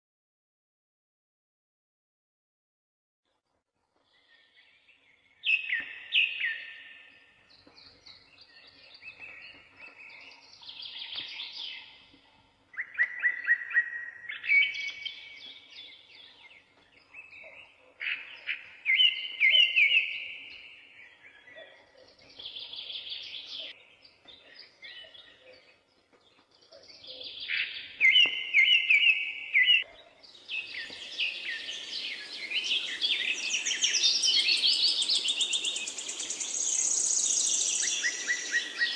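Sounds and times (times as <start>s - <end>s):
birds singing chirping trills: 4.0s - 38.9s.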